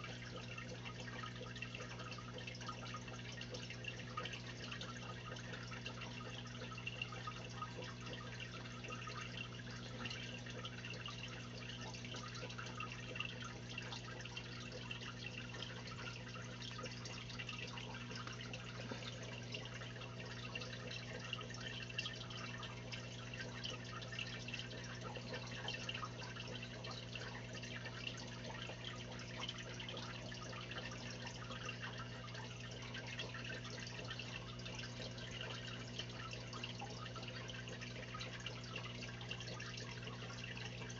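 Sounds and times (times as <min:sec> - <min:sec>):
aquarium filter humming: 0:00.0 - 0:40.9
water bubbling and dripping: 0:00.0 - 0:40.9.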